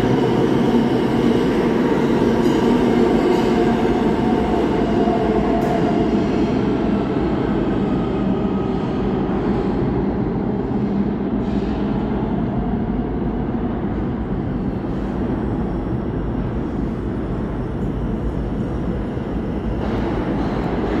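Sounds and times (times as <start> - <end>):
subway trains rumbling: 0.0 - 21.0.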